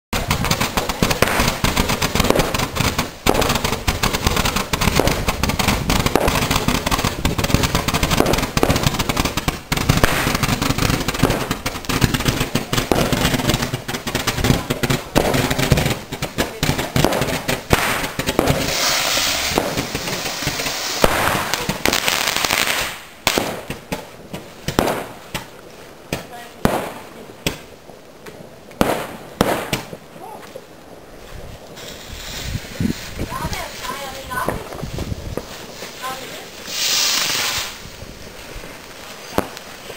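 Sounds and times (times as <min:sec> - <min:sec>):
fireworks crackling and banging: 0:00.1 - 0:39.9
firework fountain hissing: 0:00.2 - 0:39.9.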